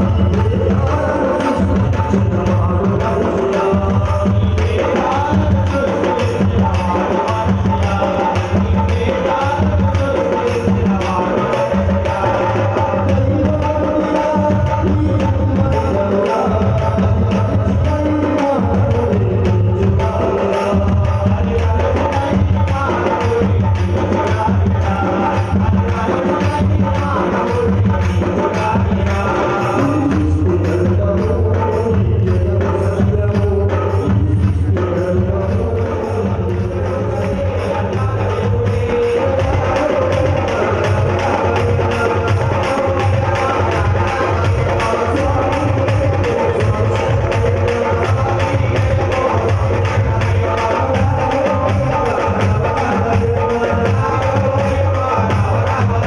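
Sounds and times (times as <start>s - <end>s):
devotional music: 0.0s - 56.0s
tabla and hand percussion: 0.0s - 56.0s.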